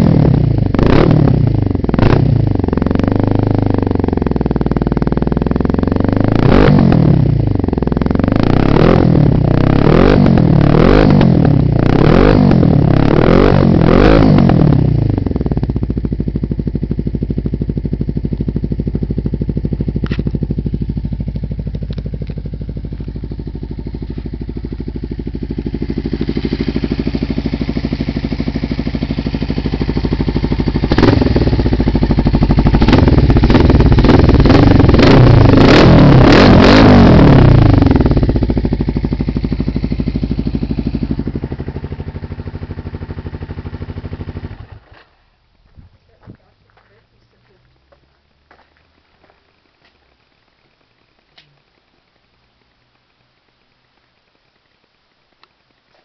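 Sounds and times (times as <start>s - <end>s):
motorcycle engine revving and idling: 0.0s - 50.5s.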